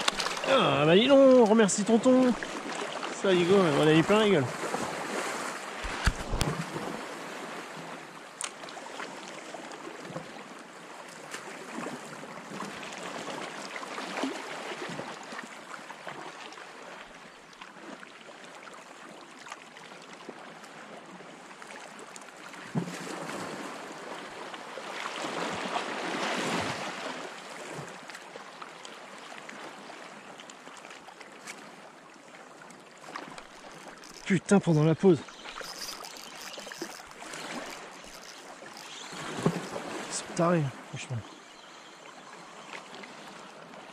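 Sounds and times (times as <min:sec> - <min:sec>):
small waves lapping: 0:00.0 - 0:43.9.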